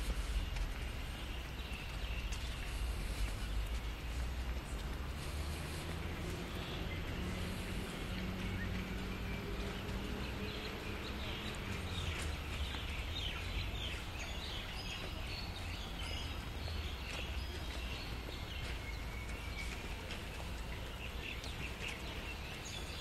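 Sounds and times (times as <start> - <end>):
low engine hum: 0.0 - 23.0
small birds chirping: 0.0 - 23.0.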